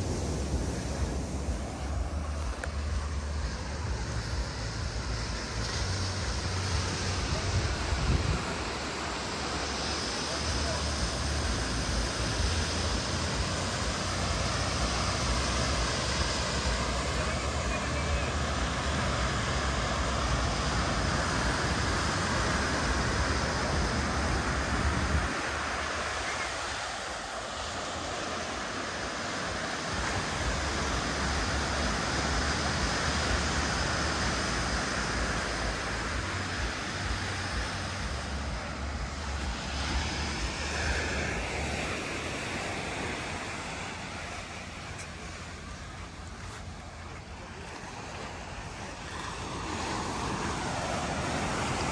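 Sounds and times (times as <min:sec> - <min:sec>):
sea surf washing onto beach: 0:00.0 - 0:51.9
wind rumbling on microphone: 0:00.0 - 0:51.9.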